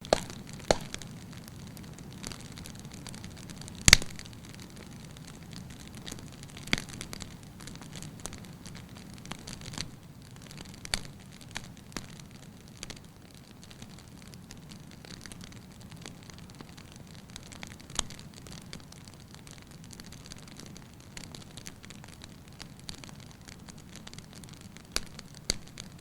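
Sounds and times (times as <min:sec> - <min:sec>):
fire crackling and popping: 0:00.0 - 0:26.0
flames rumbling: 0:00.0 - 0:26.0.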